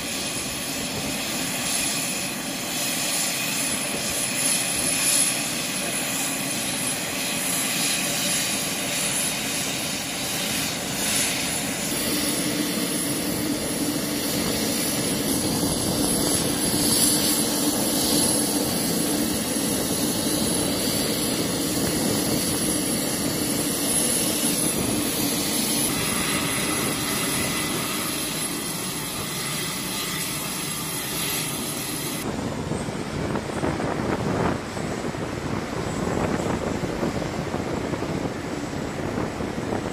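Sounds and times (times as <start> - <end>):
aircraft engine noise: 0.0 - 39.9.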